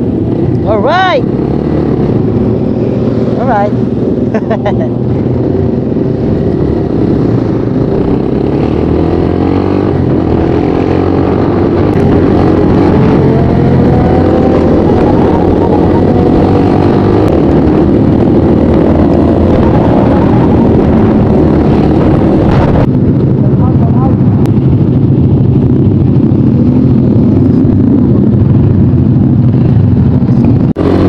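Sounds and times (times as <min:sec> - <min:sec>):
motorcycle engine accelerating: 0:00.0 - 0:31.0
other motorcycles running: 0:00.0 - 0:31.0.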